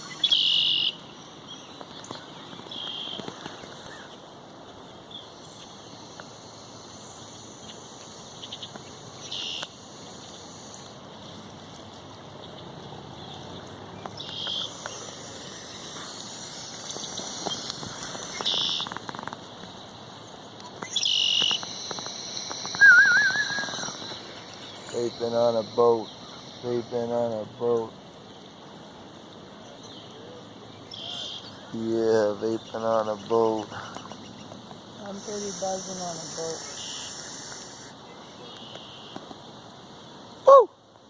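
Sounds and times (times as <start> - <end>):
birds calling: 0.0 - 40.6
river hiss: 0.0 - 41.0.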